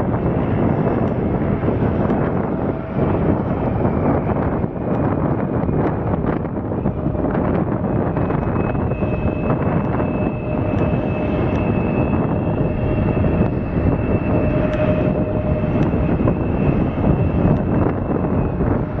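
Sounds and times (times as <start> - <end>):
jet engines rumbling and whining: 0.0 - 19.0.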